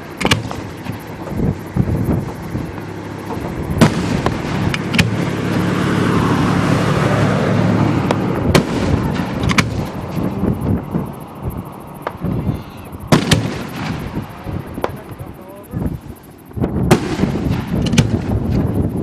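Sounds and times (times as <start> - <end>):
firework shells bursting: 0.0 - 6.1, 8.0 - 19.0
rushing noise: 0.0 - 19.0.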